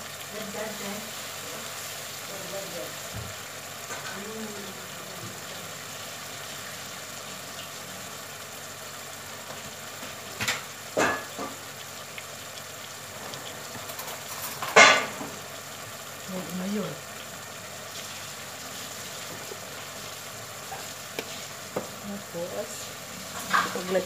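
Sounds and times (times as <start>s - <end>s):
pot cooking on gas stove: 0.0s - 24.0s.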